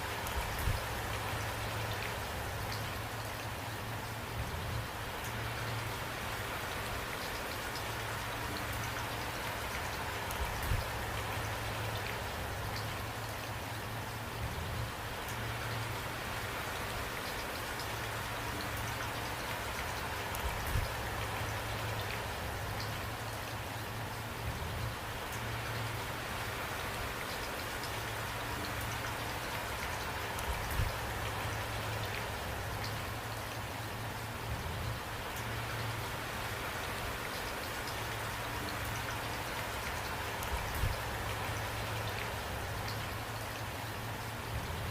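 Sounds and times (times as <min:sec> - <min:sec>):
low steady rumble: 0:00.0 - 0:07.0, 0:07.8 - 0:44.9
rain falling: 0:00.0 - 0:44.9.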